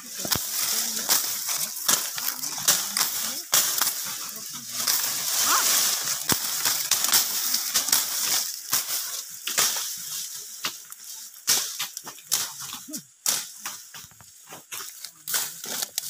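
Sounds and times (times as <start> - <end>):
rustle and crunch of stalks: 0.0 - 16.0.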